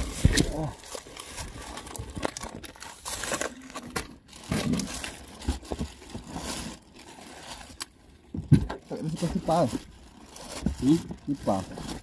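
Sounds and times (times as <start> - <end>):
plastic crinkling: 0.0 - 12.0.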